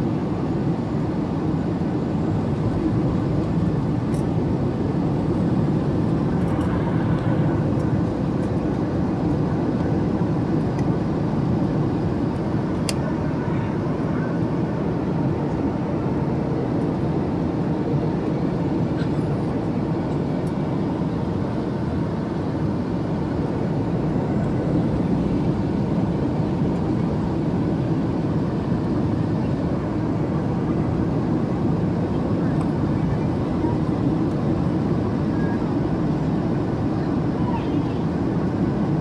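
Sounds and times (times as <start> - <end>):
airliner cabin engine roar: 0.0 - 39.0.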